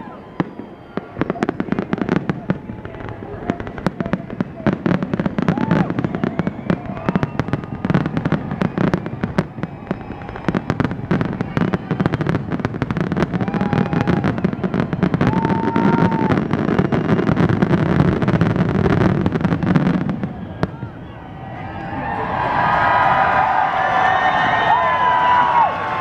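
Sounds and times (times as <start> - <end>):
firework whistles: 0.0 - 22.0
fireworks bangs and crackles: 0.0 - 26.0.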